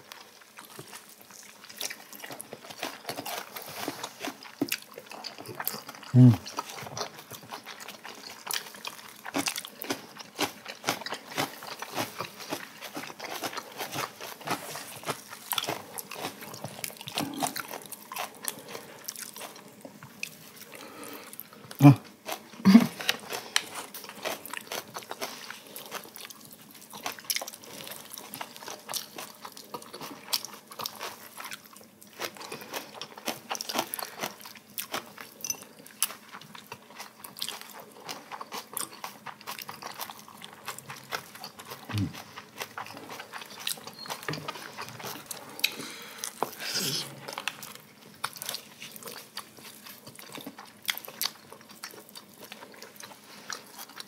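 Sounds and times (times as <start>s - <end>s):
people chewing and crunching: 0.0s - 54.0s.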